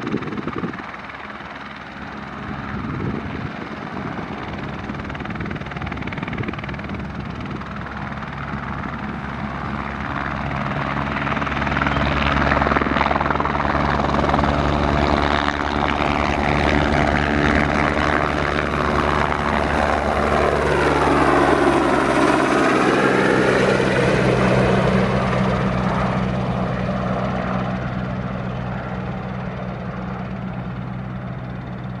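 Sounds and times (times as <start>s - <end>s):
helicopter turbine and rotor: 0.0s - 32.0s.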